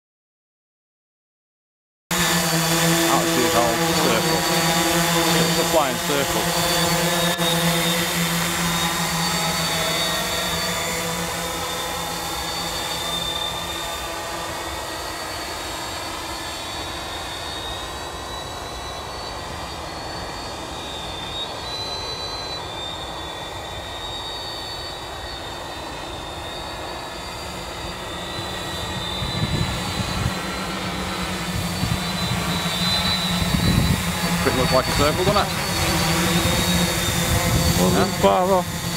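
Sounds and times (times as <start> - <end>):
drone propellers buzzing: 2.1 - 38.9.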